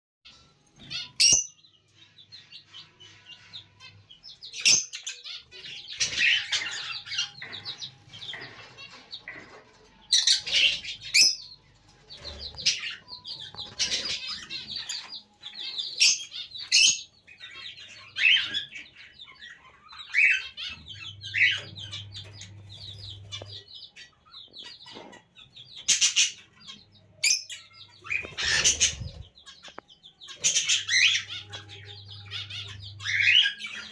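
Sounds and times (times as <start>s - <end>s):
lovebirds chattering: 0.3s - 33.9s.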